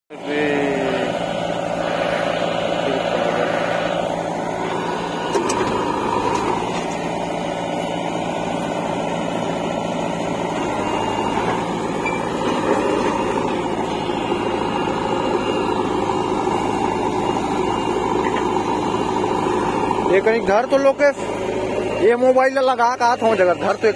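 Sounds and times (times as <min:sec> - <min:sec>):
diesel engines running: 0:00.1 - 0:23.9.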